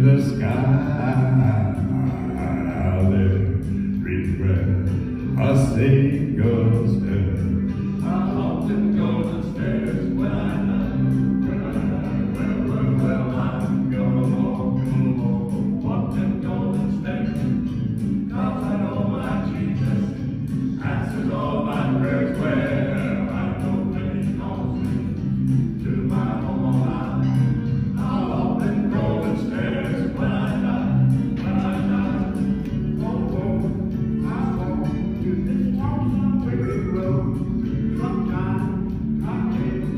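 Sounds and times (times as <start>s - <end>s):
male quartet singing in harmony: 0.0s - 39.9s.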